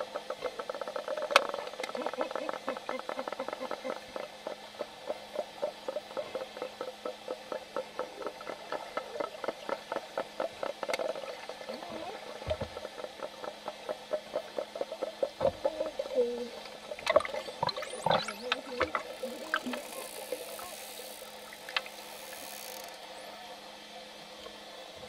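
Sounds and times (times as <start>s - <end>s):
dolphins clicking underwater: 0.0s - 23.1s.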